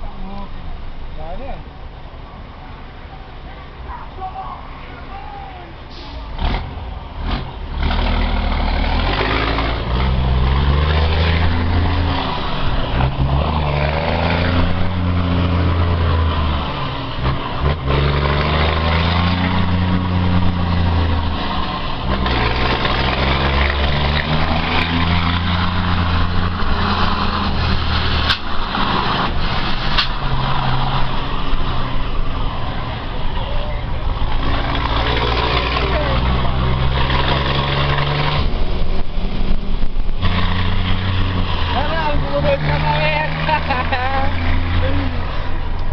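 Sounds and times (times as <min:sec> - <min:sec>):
truck diesel engine accelerating: 0:05.9 - 0:45.9.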